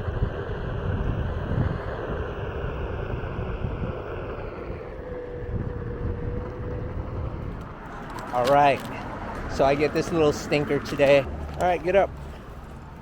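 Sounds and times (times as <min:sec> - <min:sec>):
electric motor hum: 0:00.0 - 0:13.0
wheel rolling rumble: 0:00.0 - 0:13.0
wind buffeting microphone: 0:00.0 - 0:13.0.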